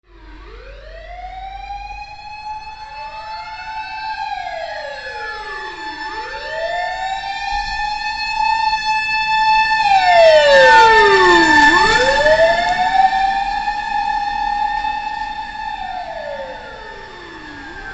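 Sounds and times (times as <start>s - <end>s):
mechanical siren wailing: 0.1s - 17.9s
second siren tone: 0.3s - 17.9s.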